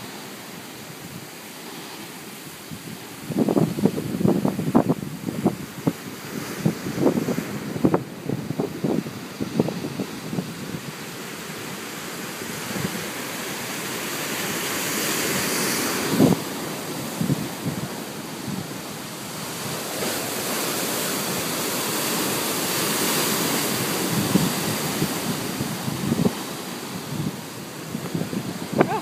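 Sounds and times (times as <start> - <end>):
surf breaking on rocks: 0.0 - 29.0
wind buffeting microphone: 2.5 - 29.0.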